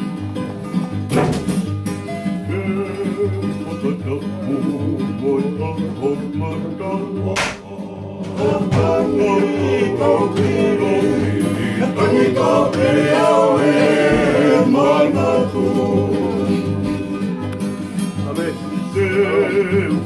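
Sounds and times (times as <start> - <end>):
strummed acoustic guitars: 0.0 - 20.0
ukulele: 0.0 - 20.0
men singing in harmony: 2.4 - 17.4, 18.8 - 20.0.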